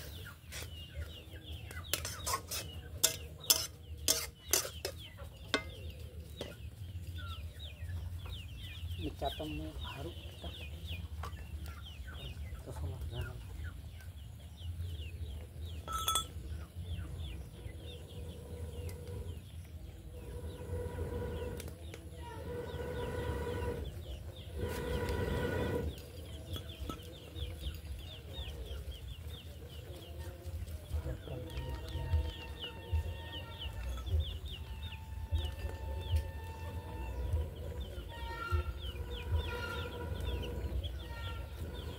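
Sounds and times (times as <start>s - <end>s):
chicks peeping: 0.0s - 41.9s
long steady chicken calls: 0.0s - 41.9s.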